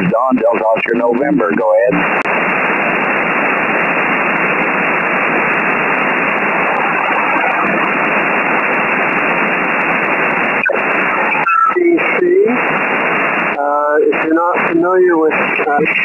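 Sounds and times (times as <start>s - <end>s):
shortwave radio static hiss: 0.0s - 16.0s.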